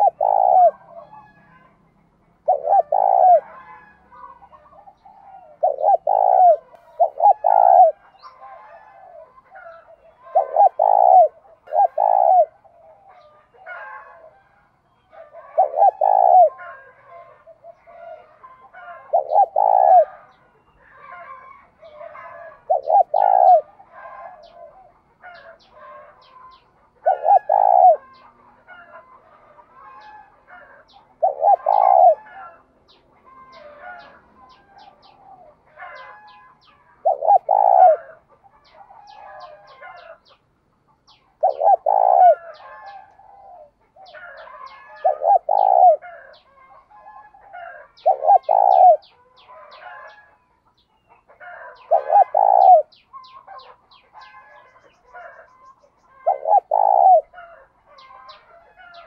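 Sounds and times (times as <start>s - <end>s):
dove cooing: 0.0s - 40.4s, 41.0s - 59.0s.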